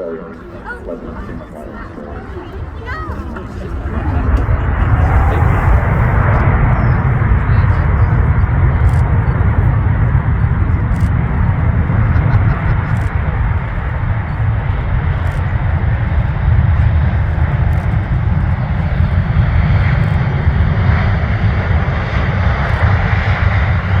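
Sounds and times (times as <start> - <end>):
jet engines roaring: 2.2 - 24.0.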